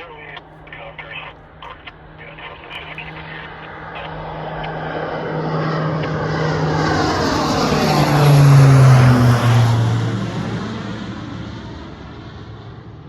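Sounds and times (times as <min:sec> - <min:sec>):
propeller airplane passing: 0:00.0 - 0:13.0.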